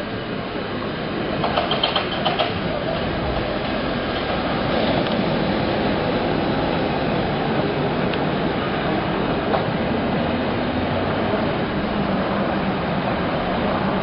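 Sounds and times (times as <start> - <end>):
cable car rumbling on rails: 0.0 - 14.0.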